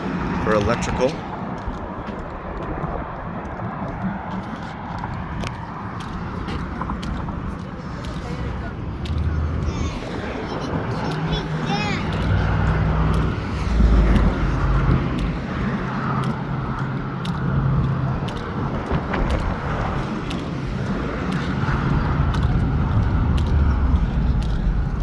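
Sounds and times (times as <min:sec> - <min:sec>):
highway traffic rumble: 0:00.0 - 0:25.0
vehicle engine drone: 0:00.0 - 0:25.0
faint footstep clicks: 0:00.5 - 0:25.0.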